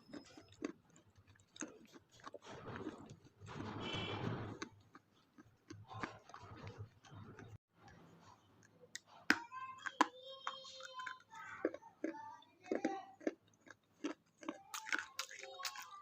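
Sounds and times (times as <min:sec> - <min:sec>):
chewing crisp chocolate wafer: 0:00.0 - 0:16.0.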